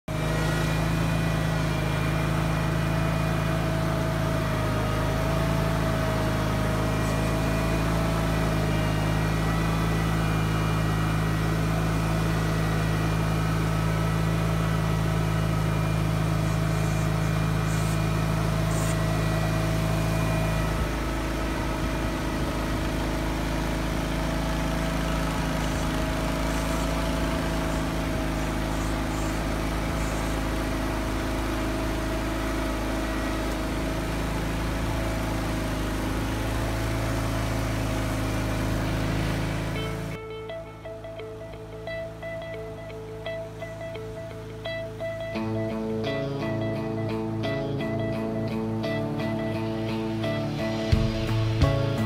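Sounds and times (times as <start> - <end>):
garden tractor engine running: 0.0 - 52.0.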